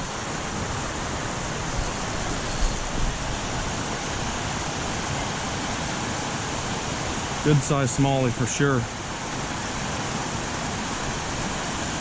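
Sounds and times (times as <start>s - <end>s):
water rushing over dam: 0.0s - 12.0s.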